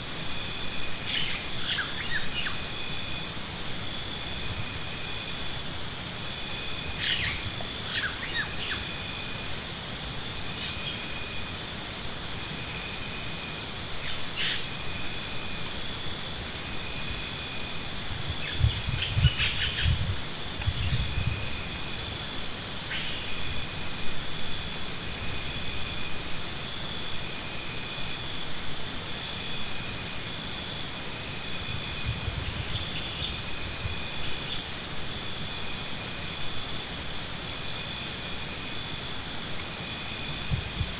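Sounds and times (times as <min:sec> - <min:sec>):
insect trilling: 0:00.1 - 0:40.9.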